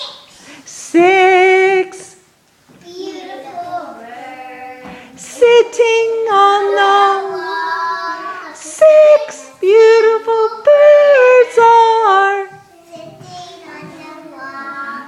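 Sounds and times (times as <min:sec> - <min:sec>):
woman and children singing: 0:00.6 - 0:02.2, 0:03.2 - 0:15.0.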